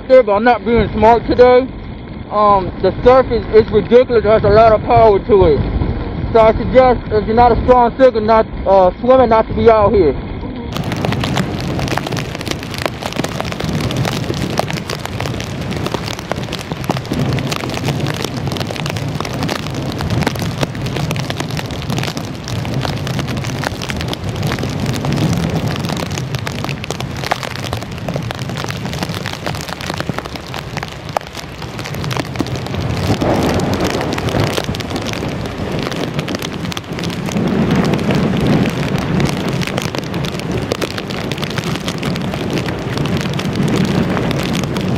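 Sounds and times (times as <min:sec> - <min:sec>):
low rumble: 0:00.0 - 0:44.9
rain and wind rushing: 0:00.0 - 0:44.9.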